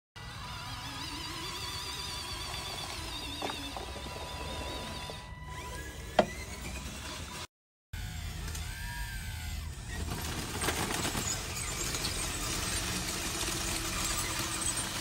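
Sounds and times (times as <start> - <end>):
small electric motors whining: 0.2 - 15.0.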